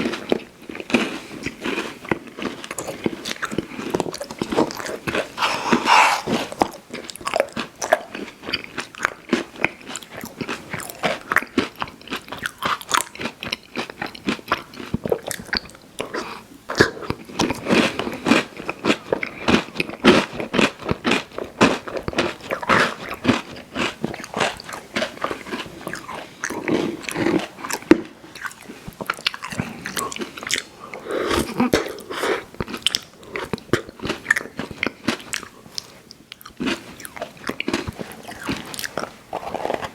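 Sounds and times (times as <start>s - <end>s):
crunchy eating and chewing: 0.0s - 39.9s.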